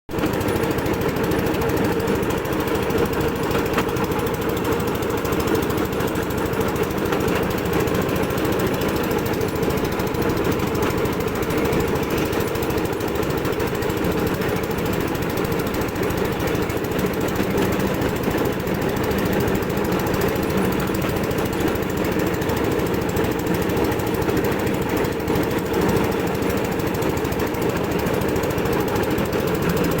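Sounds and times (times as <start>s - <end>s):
small engine rattling: 0.1s - 30.0s.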